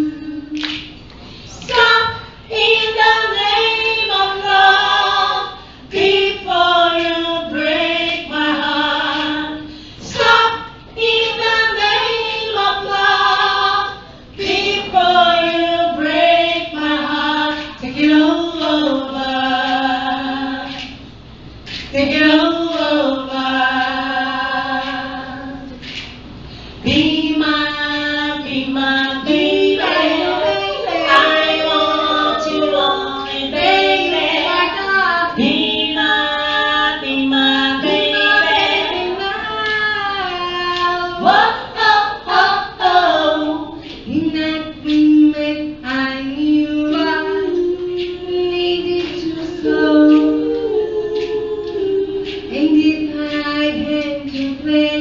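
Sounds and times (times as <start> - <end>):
women singing in harmony: 0.0 - 21.1, 21.9 - 26.0, 26.8 - 55.0.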